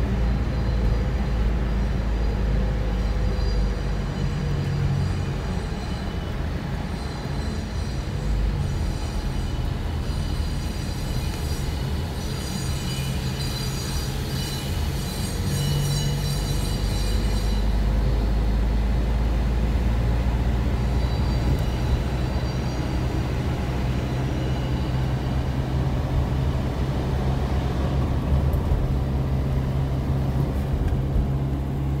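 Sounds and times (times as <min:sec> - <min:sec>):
vehicle rumble: 0:00.0 - 0:32.0.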